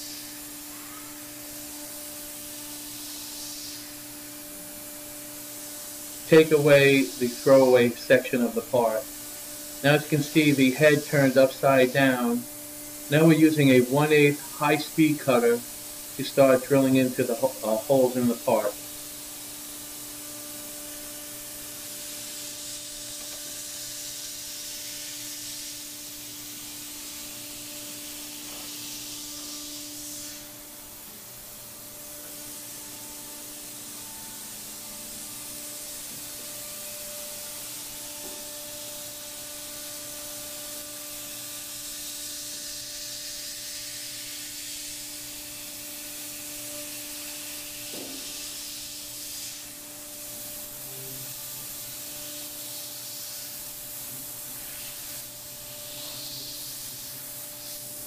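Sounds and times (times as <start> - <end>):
compressed air hiss: 0.0 - 58.0.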